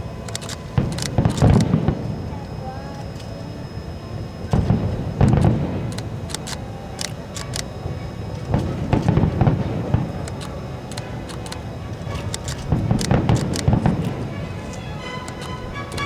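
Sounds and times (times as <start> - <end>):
fireworks booming and cracking: 0.6 - 3.2, 4.1 - 6.4, 7.8 - 16.0.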